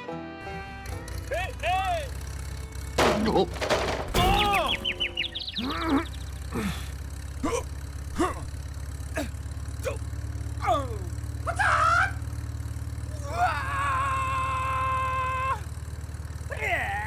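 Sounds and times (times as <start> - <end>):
small motor humming: 0.4 - 3.4, 4.9 - 16.6.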